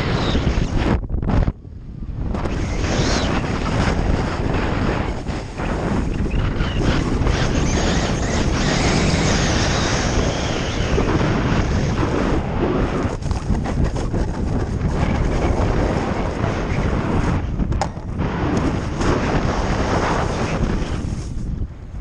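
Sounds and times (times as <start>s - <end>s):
wind buffeting microphone: 0.0s - 22.0s
snowboard scraping over snow: 2.2s - 22.0s.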